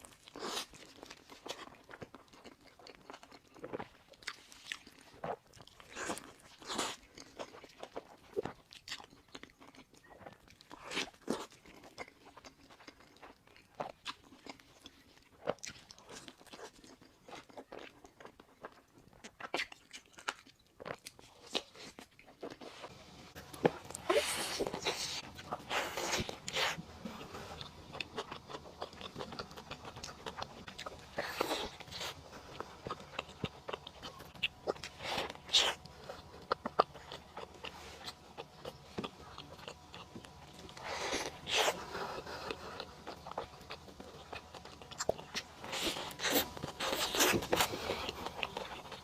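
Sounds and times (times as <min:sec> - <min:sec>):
chewing and biting a burger: 0:00.0 - 0:49.0.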